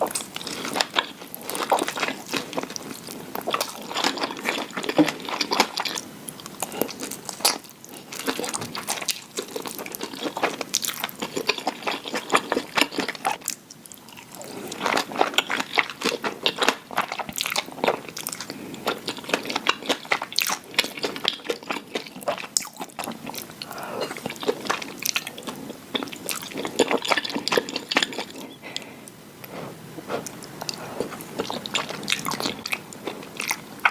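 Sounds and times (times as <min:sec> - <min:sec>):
person chewing with mouth clicks: 0:00.0 - 0:33.9.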